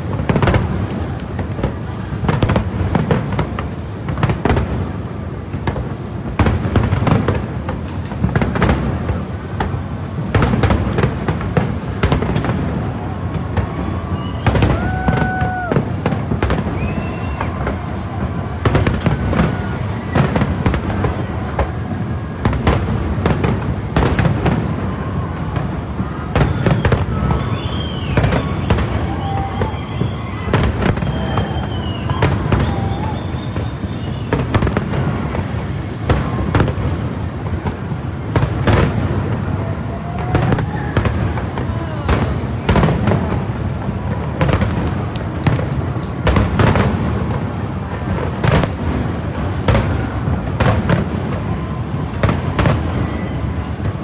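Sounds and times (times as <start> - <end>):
fireworks bangs and crackles: 0.0 - 54.0
fireworks whistling: 0.0 - 54.0.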